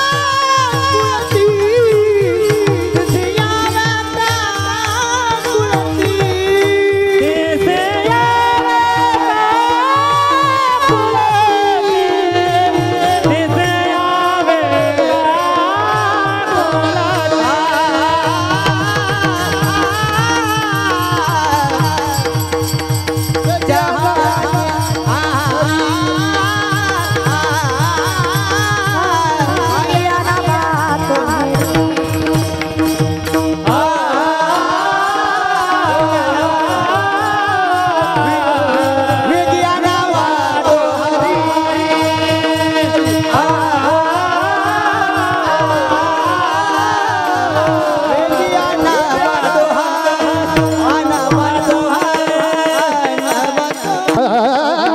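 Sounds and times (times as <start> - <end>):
men singing in chorus: 0.0 - 54.9.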